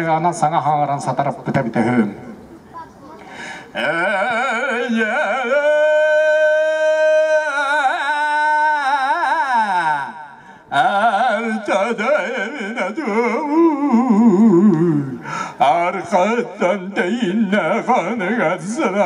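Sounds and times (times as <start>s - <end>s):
man singing unaccompanied: 3.7s - 19.0s.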